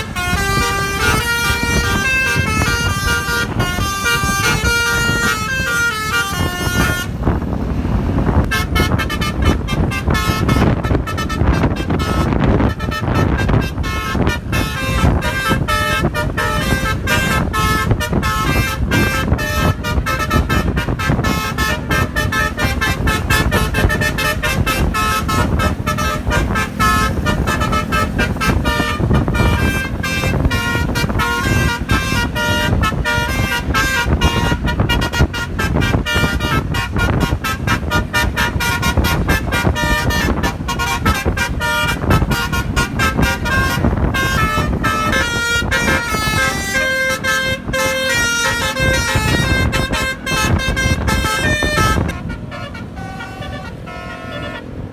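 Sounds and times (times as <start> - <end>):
musical air horn playing tune: 0.0 - 54.9
truck engine rumble: 0.0 - 54.9.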